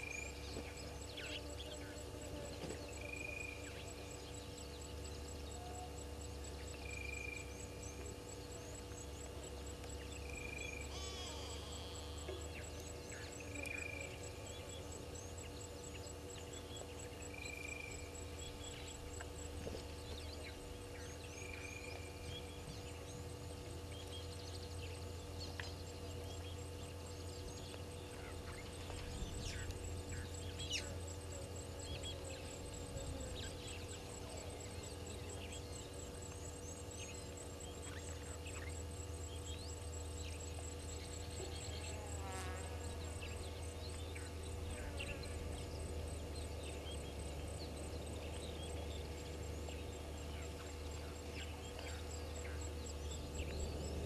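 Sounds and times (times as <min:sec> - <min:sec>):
constant low hum: 0:00.0 - 0:54.0.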